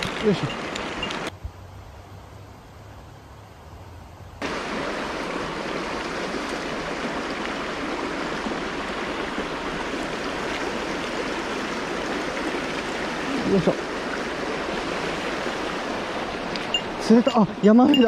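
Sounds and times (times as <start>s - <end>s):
stream rushing over stones: 0.0s - 1.3s, 4.4s - 18.0s.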